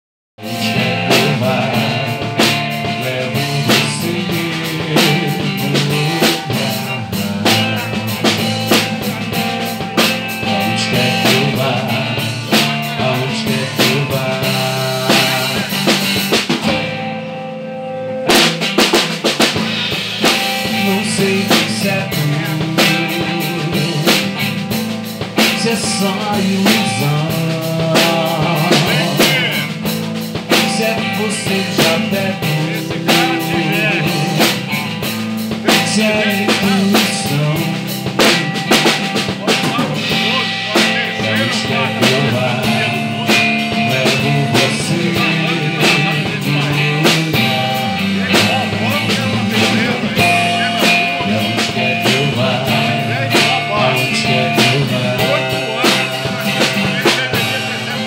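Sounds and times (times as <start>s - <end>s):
drum kit beat: 0.4s - 58.0s
music with bass: 0.4s - 58.0s.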